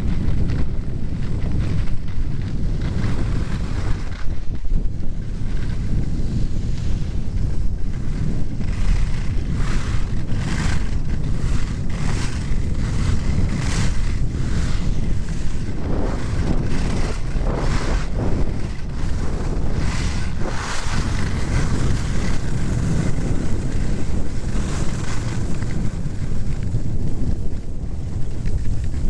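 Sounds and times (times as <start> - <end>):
skis scraping across packed snow: 0.0 - 29.0
wind rushing over microphone: 0.0 - 29.0.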